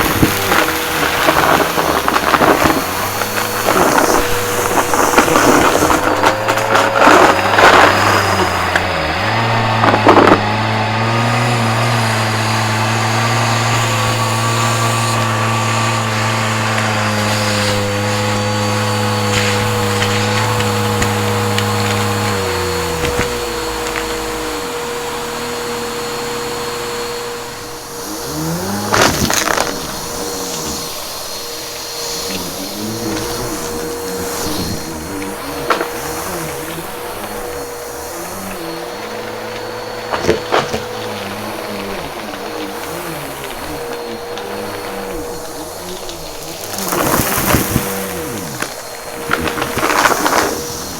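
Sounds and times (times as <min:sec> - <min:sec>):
debris crackling in vacuum: 0:00.0 - 0:50.9
upright vacuum humming: 0:00.0 - 0:50.9.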